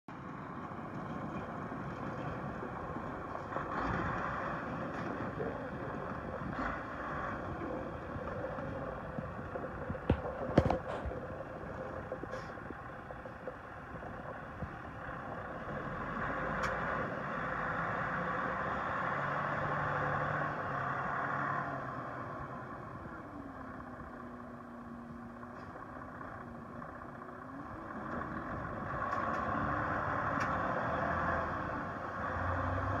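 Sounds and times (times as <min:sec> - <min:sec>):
truck diesel engine running: 0:00.1 - 0:33.0.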